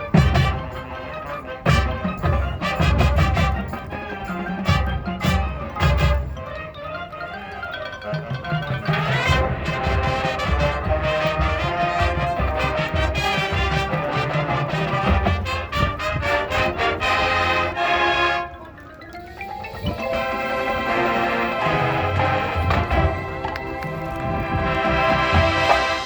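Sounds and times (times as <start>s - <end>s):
marching band playing: 0.0s - 26.0s
marimba and xylophone: 0.0s - 26.0s.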